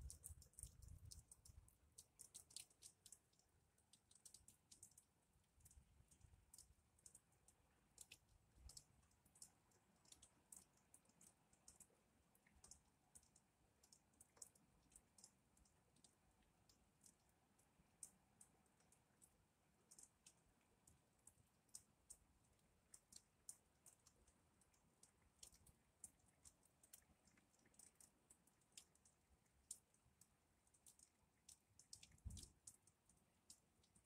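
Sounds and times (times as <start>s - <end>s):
raindrops ticking on window glass: 0.0s - 34.0s.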